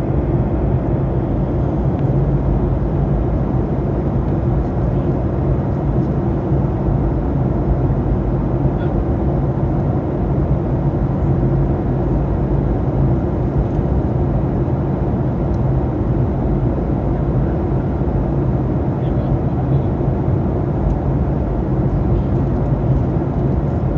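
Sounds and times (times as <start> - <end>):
airliner cabin drone: 0.0 - 23.9.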